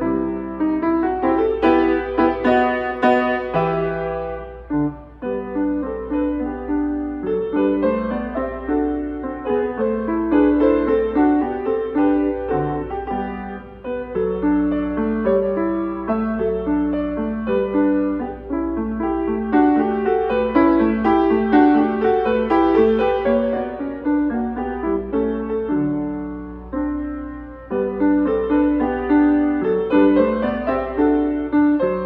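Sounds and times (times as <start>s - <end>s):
grand piano playing: 0.0s - 32.0s.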